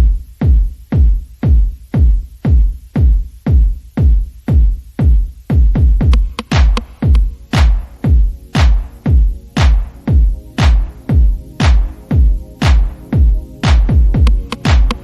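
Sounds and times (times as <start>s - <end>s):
electronic music: 0.0s - 15.0s
heavy kick drum: 0.0s - 15.0s.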